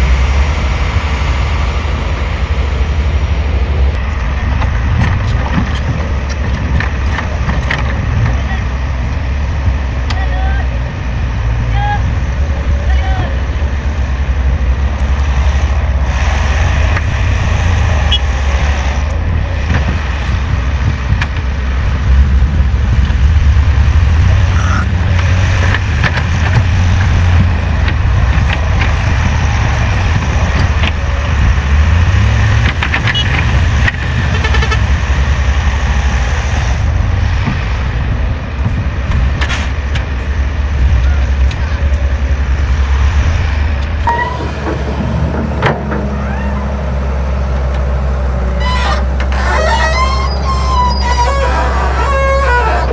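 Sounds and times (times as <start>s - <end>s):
heavy machinery engine rumbling: 0.0s - 52.9s.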